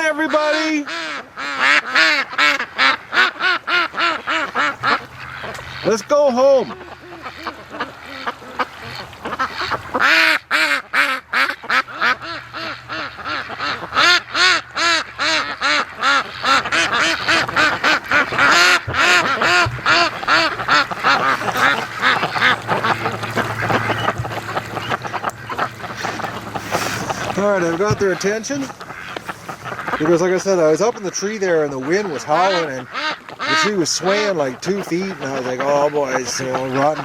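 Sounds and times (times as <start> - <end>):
ducks quacking: 0.0 - 37.0.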